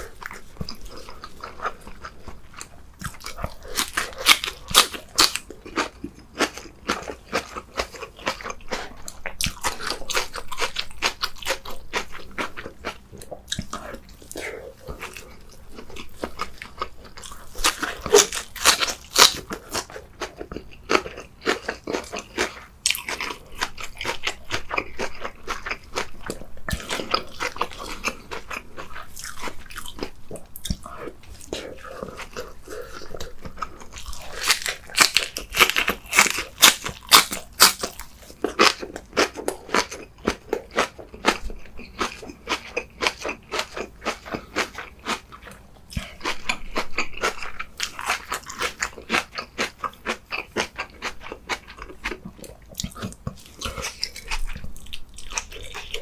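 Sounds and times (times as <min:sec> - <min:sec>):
person chewing crunchy cabbage: 0:00.0 - 0:56.0.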